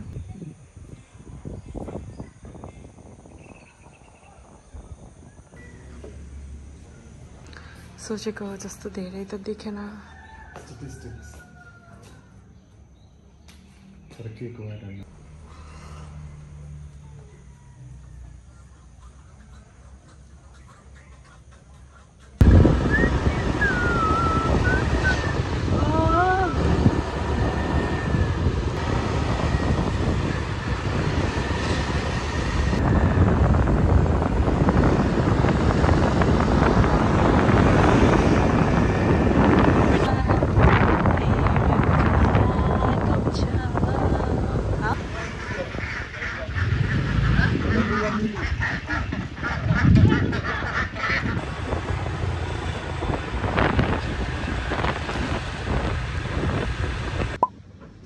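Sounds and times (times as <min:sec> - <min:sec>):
wind rumble on microphone: 0:00.0 - 0:12.3, 0:22.4 - 0:58.0
vehicle engine and road noise: 0:04.2 - 0:58.0
street traffic: 0:05.0 - 0:58.0.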